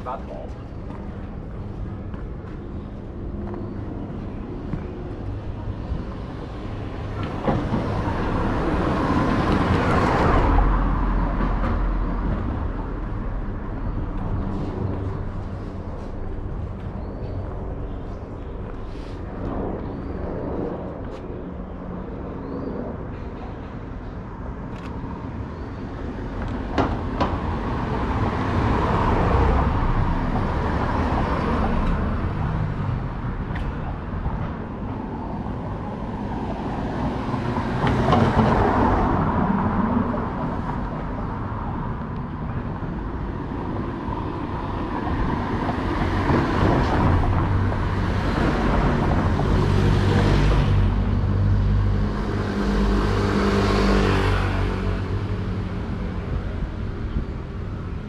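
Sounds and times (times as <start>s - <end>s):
engine low drone: 0.0s - 58.0s
vehicles passing: 0.0s - 58.0s.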